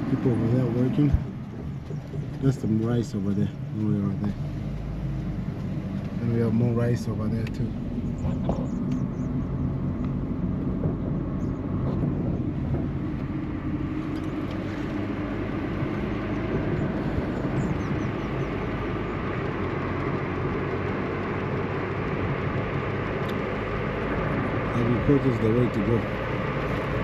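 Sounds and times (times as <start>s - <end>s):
road and wind noise: 0.0s - 27.0s
vehicle engine hum: 0.0s - 27.0s.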